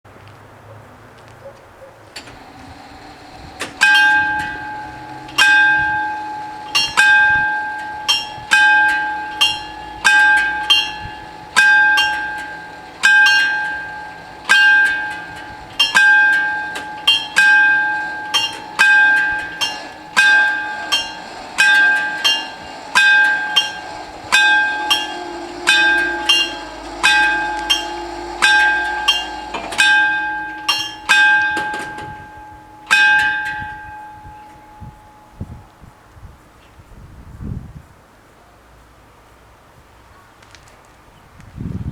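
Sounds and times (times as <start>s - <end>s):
electric warning bells ringing: 2.1s - 36.2s.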